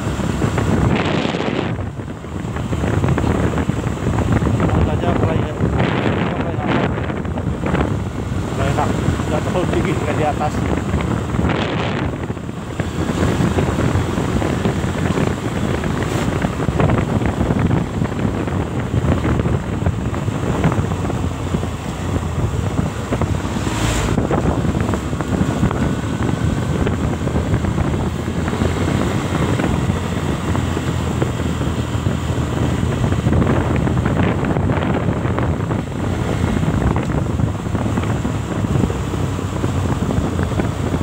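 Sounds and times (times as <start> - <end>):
motorcycle running: 0.0 - 41.0
wind buffeting microphone: 0.0 - 41.0.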